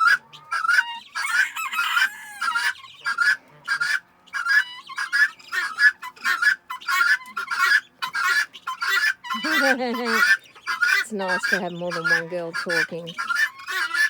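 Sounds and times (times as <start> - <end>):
guinea hens calling: 0.0 - 14.0.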